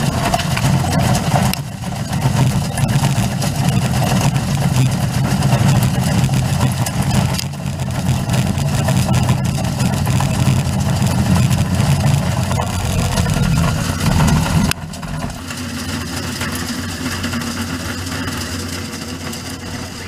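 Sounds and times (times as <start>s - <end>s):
granulator low mechanical hum: 0.0s - 20.0s.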